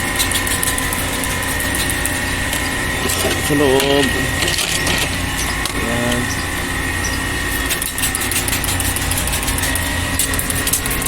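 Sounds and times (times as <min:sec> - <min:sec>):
high whine: 0:00.0 - 0:11.0
motor humming: 0:00.0 - 0:11.0.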